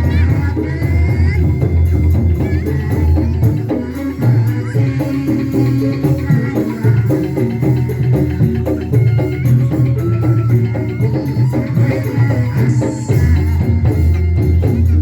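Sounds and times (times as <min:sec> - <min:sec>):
bass line: 0:00.0 - 0:15.0
drums: 0:00.0 - 0:15.0
instrumental live band music: 0:00.0 - 0:15.0
quick repeated pitched notes: 0:00.0 - 0:15.0
shaker percussion: 0:00.0 - 0:15.0.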